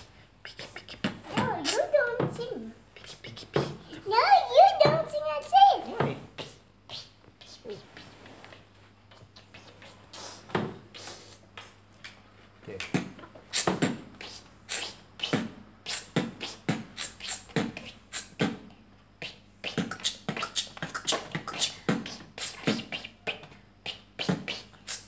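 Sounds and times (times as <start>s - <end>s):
vocal beatboxing: 0.0s - 4.1s, 6.3s - 11.8s, 12.7s - 25.0s.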